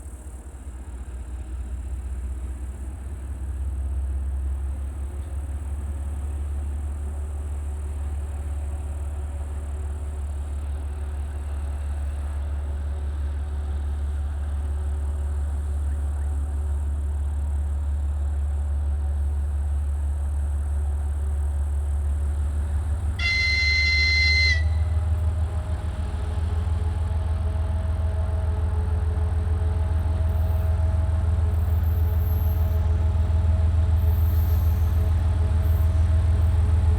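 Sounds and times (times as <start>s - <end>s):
diesel locomotive rumbling: 0.0s - 36.9s.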